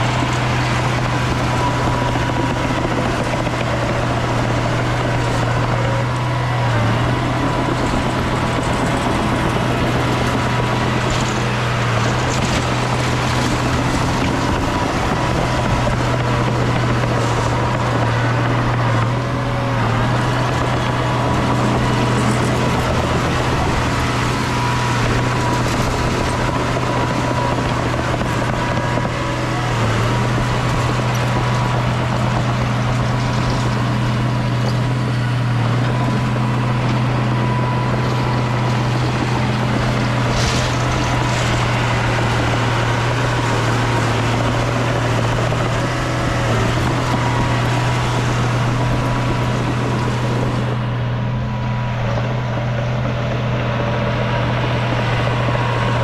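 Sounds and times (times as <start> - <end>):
heavy diesel engine droning: 0.0 - 56.0.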